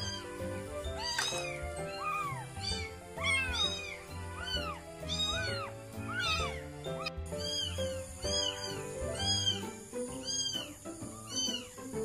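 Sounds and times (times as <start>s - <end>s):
kitten mewing: 0.0s - 11.8s
background music: 0.0s - 12.0s.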